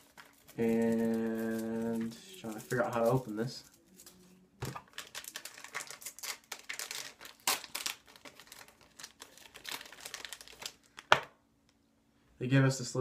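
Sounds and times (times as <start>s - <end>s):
packaging crinkling: 0.0s - 11.3s.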